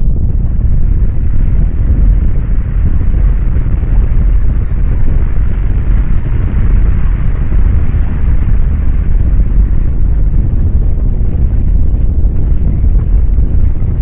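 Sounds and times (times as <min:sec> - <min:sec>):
avalanche rumbling roar: 0:00.0 - 0:14.0
wind buffeting microphone: 0:00.0 - 0:14.0.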